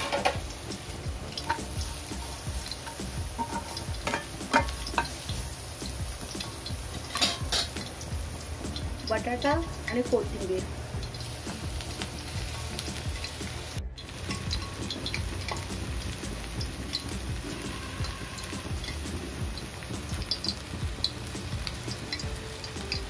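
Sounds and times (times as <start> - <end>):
potato filling sizzling in a pan: 0.0 - 23.0.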